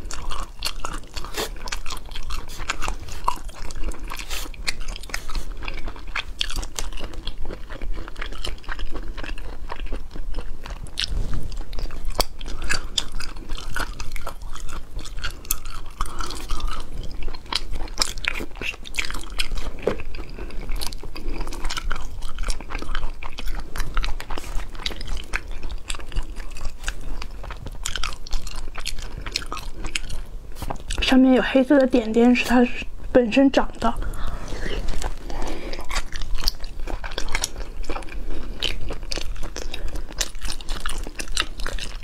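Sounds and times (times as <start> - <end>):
chewing with sharp crunches: 0.0 - 42.0.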